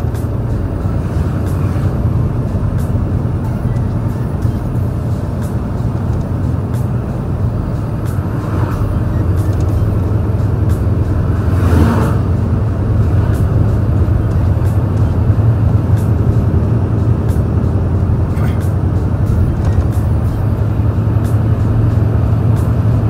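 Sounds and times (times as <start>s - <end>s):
truck diesel engine droning: 0.0s - 23.0s
truck passing: 0.0s - 23.0s.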